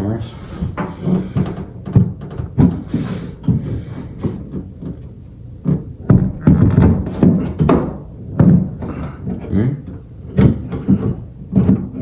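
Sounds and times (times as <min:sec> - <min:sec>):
hand tools knocking and scraping: 0:00.4 - 0:09.5, 0:10.3 - 0:12.0.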